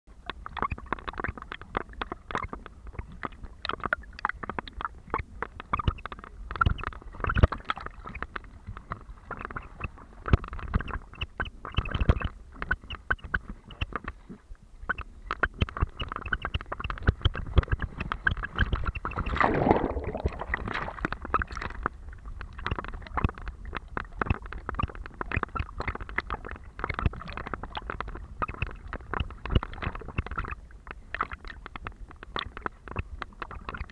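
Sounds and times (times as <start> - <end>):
muffled water sloshing and gurgling: 0.1 - 33.9.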